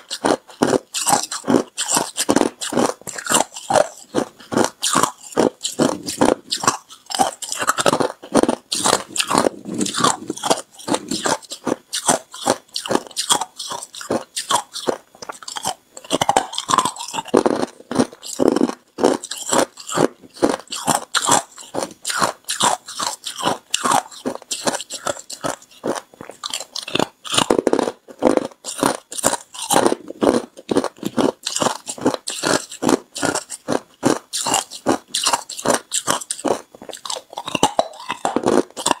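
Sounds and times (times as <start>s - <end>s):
ice being chewed crunching: 0.0s - 39.0s.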